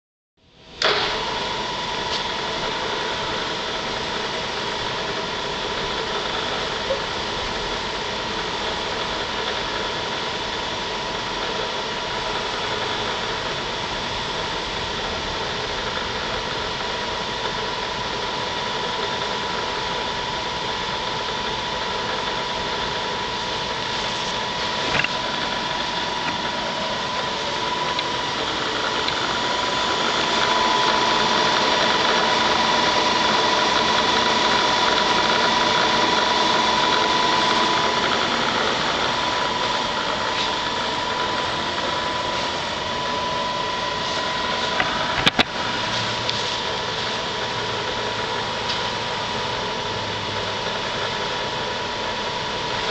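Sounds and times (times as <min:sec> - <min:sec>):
milling machine hum and whine: 0:00.4 - 0:52.9.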